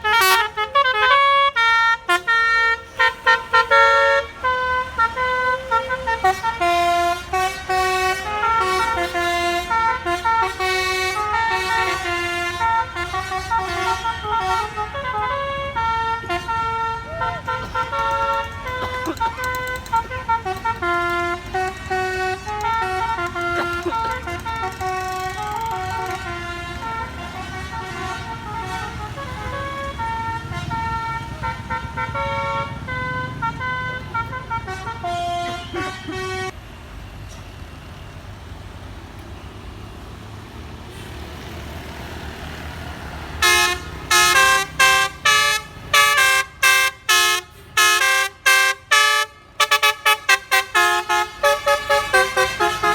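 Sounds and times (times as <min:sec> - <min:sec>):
bus musical horn melody: 0:00.0 - 0:36.6, 0:42.5 - 0:52.9
bus engine: 0:00.0 - 0:52.9
road noise: 0:00.0 - 0:52.9.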